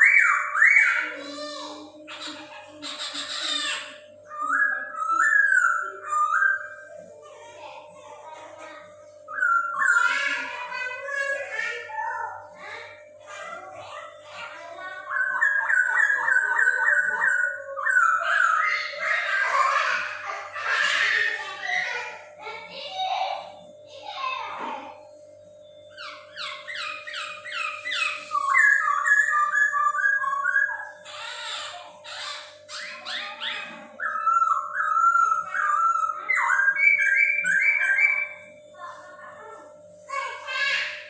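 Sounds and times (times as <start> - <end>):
bird singing chattering notes: 0.0 - 39.6
faint steady hum: 0.0 - 41.0.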